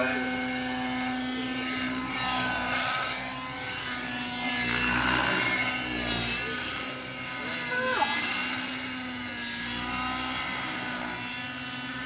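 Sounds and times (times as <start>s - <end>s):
model helicopter engine and rotor: 0.0s - 12.0s.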